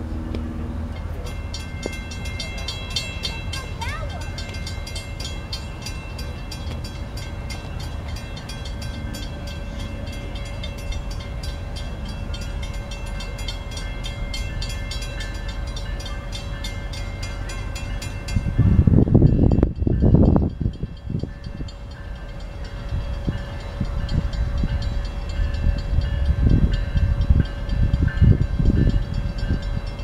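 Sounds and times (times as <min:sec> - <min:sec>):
diesel freight train rumble: 0:00.0 - 0:30.0
loud uneven low rumble: 0:00.0 - 0:30.0.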